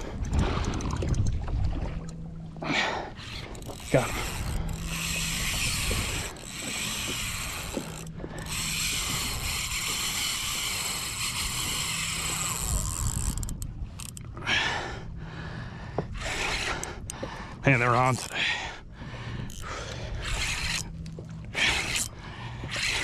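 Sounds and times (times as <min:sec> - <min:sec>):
fishing reel ratcheting buzz: 0:02.1 - 0:14.8, 0:16.2 - 0:18.7, 0:19.4 - 0:23.0.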